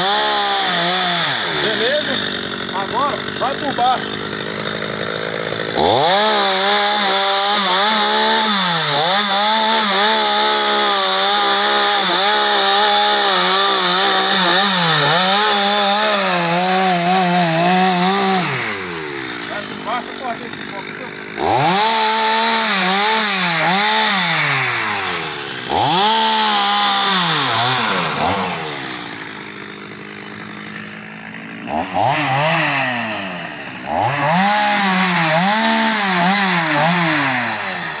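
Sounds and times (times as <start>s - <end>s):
chainsaw cutting a log: 0.0s - 38.0s.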